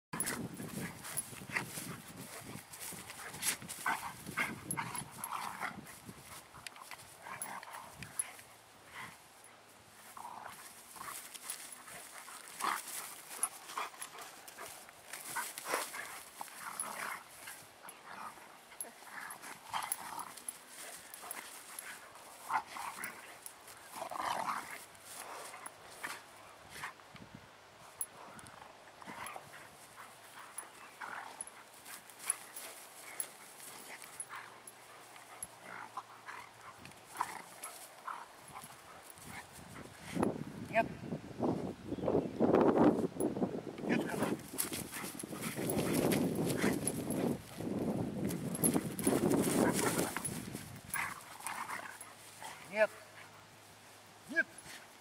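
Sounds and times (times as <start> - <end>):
young dogs play-fighting: 0.2 - 27.0, 27.8 - 40.4, 44.1 - 55.0.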